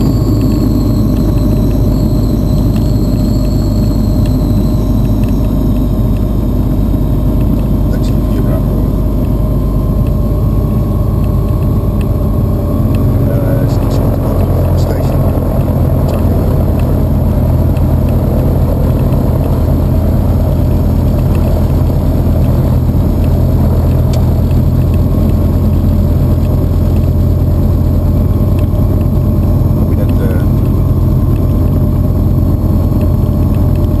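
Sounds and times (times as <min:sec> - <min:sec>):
propeller plane engine droning: 0:00.0 - 0:34.0.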